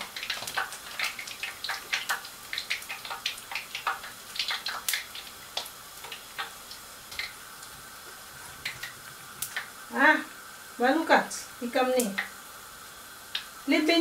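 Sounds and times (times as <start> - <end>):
oil crackling and popping: 0.0 - 10.7, 11.9 - 13.6
dough deep-frying in oil: 0.0 - 14.0.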